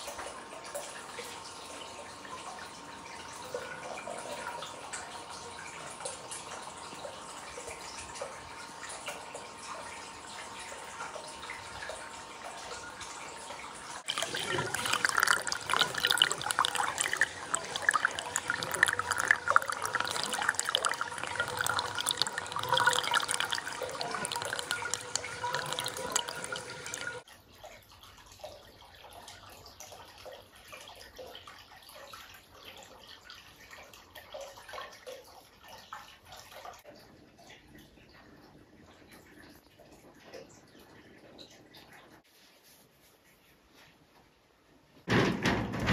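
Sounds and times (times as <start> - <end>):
water pouring into a bath: 0.0 - 38.2.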